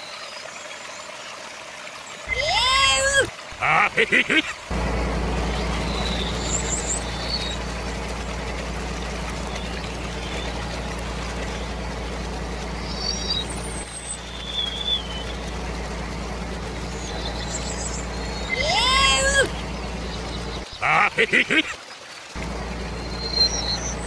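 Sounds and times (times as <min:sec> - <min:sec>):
tractor engine droning: 0:02.3 - 0:21.6, 0:22.4 - 0:24.0.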